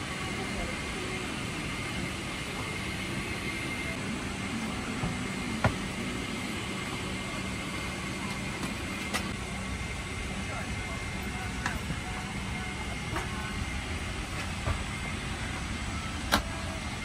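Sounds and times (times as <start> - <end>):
airliner cabin noise: 0.0 - 17.0.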